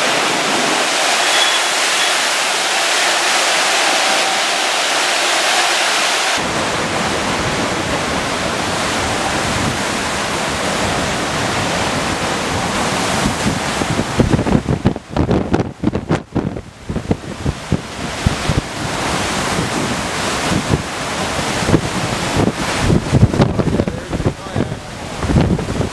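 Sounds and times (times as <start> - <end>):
floodwater rushing: 0.0 - 25.9
hurricane wind: 0.0 - 25.9
wind gusts hitting microphone: 0.0 - 25.9.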